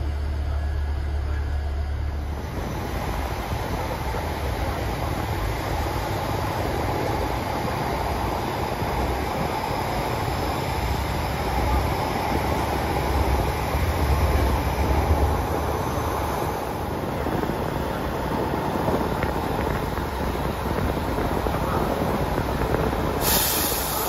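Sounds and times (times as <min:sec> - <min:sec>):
diesel train engine rumble: 0:00.0 - 0:24.0.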